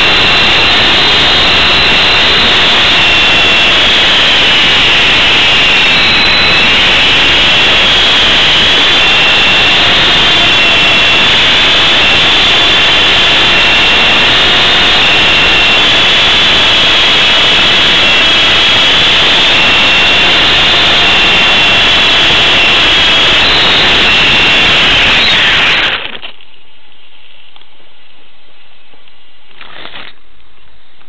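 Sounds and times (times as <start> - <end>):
rc helicopter motors whining: 0.0 - 26.2
rotors rushing: 0.0 - 26.2.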